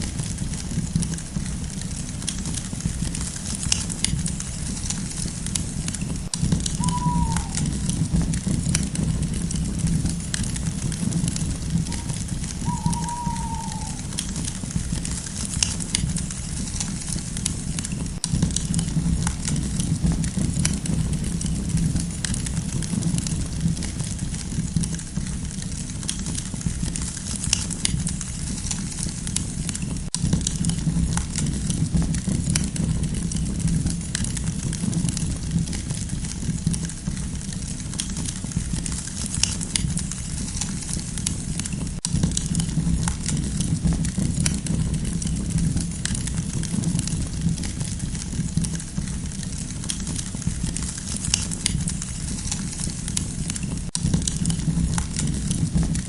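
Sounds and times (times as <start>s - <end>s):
campfire crackling and popping: 0.0s - 56.0s
low rumble of burning fire: 0.0s - 56.0s.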